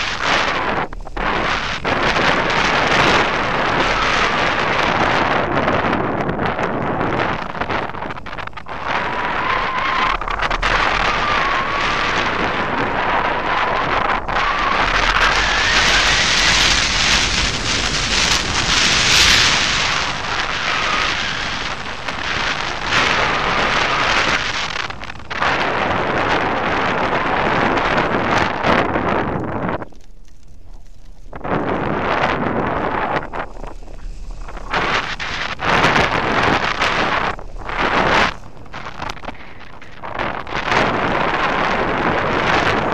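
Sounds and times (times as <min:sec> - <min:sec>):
wind noise on microphone: 0:00.0 - 0:42.9.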